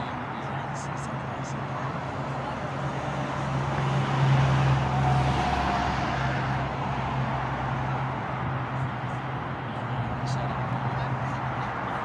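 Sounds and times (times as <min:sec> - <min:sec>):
street traffic hum: 0:00.0 - 0:12.0
vehicle passing: 0:00.0 - 0:12.0.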